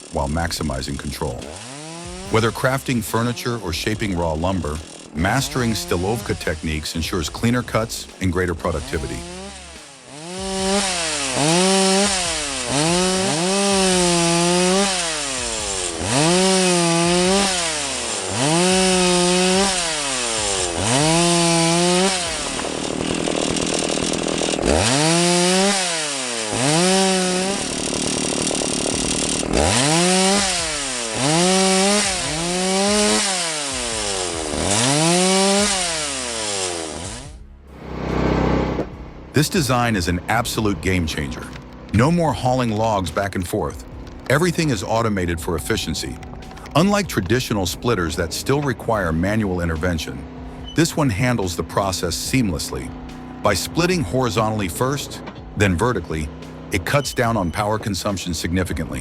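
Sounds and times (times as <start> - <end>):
chainsaw revving: 0.0 - 59.0
steady rasping noise: 0.0 - 59.0.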